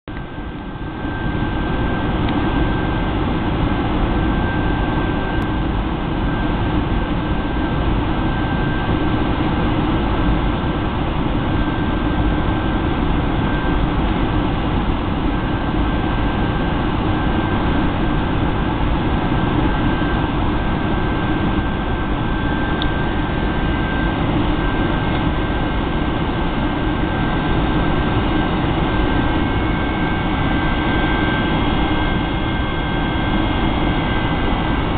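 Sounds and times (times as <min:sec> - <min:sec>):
constant high whine: 0:00.0 - 0:34.9
jet engines and airflow rushing: 0:00.1 - 0:34.9.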